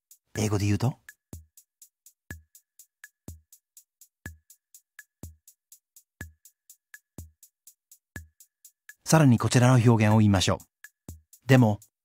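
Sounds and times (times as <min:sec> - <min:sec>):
drum machine beat: 0:00.1 - 0:12.0.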